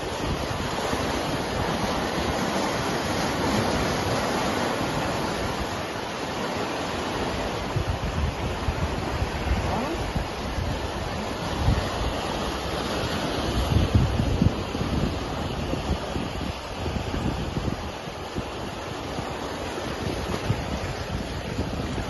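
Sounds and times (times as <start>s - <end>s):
whitewater rushing: 0.0s - 22.0s
wind rumbling on microphone: 0.0s - 22.0s.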